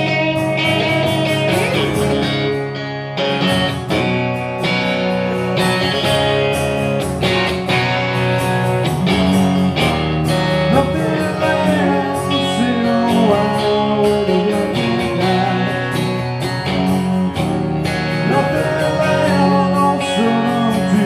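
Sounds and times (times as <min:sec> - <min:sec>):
acoustic guitar strumming: 0:00.0 - 0:21.0
electric guitar lead lines: 0:00.0 - 0:21.0.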